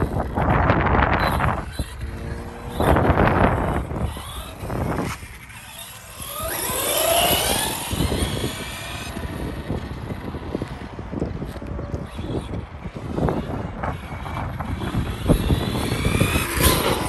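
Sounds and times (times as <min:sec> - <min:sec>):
rc truck motor whine: 0:00.0 - 0:17.0
wind on microphone: 0:00.0 - 0:17.0.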